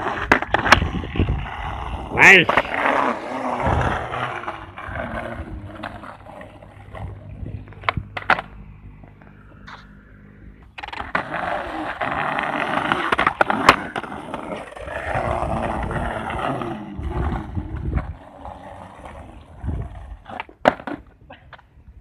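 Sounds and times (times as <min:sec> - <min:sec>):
skateboard clacks: 0:00.0 - 0:08.6, 0:10.8 - 0:21.7
skateboard wheels rolling on concrete: 0:00.0 - 0:22.0.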